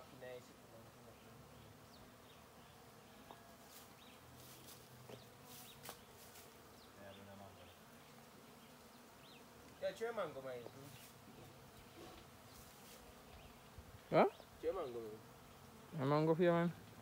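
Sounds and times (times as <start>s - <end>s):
swarm of honeybees buzzing: 0.0s - 17.0s
single bee humming past: 1.1s - 16.2s.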